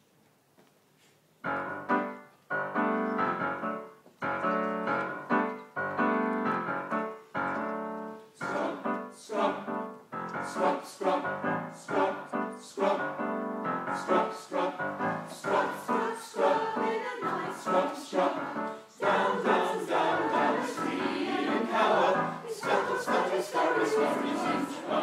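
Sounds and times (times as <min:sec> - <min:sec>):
digital piano chords: 0:01.4 - 0:25.0.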